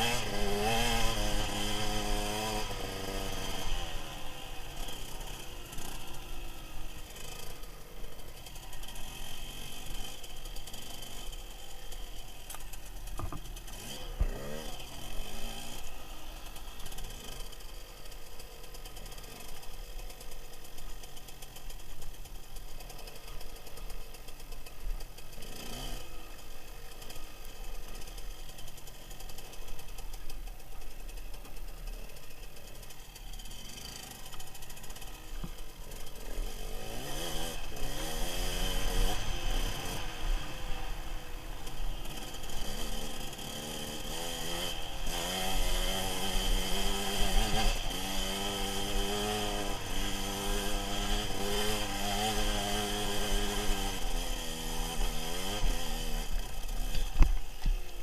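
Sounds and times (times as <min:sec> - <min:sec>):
dirt bike engine revving: 0:00.0 - 0:31.1, 0:31.7 - 0:58.0.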